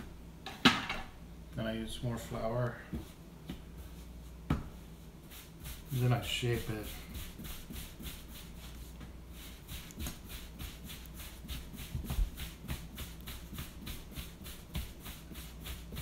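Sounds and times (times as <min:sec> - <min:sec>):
steady low hum: 0:00.0 - 0:16.0
hands rubbing dough on board: 0:02.3 - 0:16.0.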